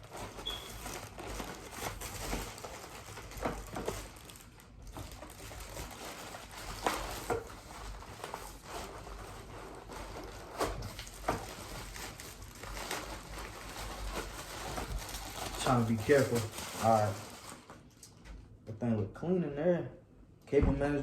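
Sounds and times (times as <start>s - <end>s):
low steady hum: 0.1s - 21.0s.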